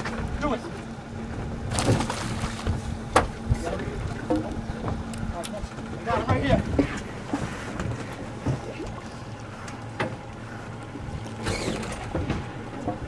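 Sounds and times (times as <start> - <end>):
boat engine hum: 0.0 - 13.0
water noise: 0.0 - 13.0
wind: 0.0 - 13.0.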